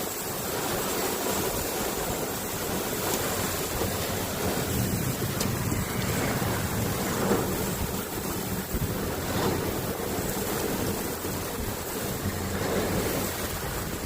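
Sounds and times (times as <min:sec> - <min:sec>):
heavy rain hissing: 0:00.0 - 0:14.0
wind buffeting microphone: 0:00.1 - 0:14.0.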